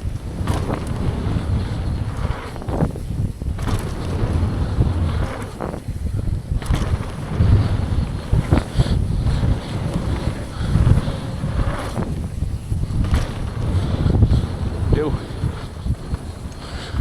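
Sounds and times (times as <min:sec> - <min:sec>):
bike clattering over bumps: 0:00.0 - 0:17.0
bike tyres on dirt: 0:00.0 - 0:17.0
wind buffeting microphone: 0:00.0 - 0:17.0.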